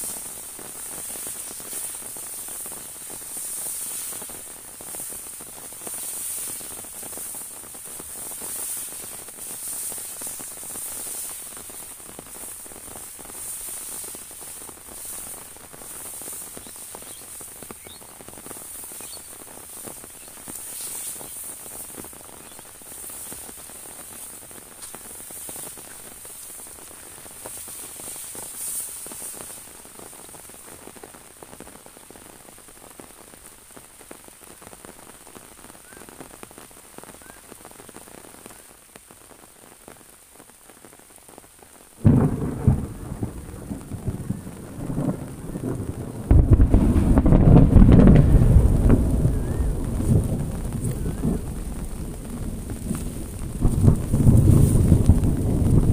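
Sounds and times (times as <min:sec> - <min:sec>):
rain pattering on an umbrella: 0:00.0 - 0:55.9.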